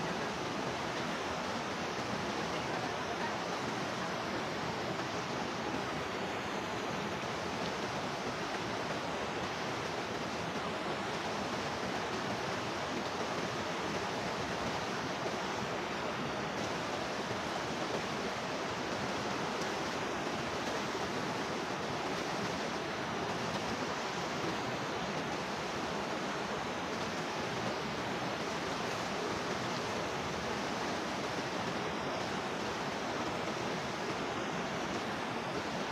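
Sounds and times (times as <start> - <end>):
rushing water: 0.0 - 35.9.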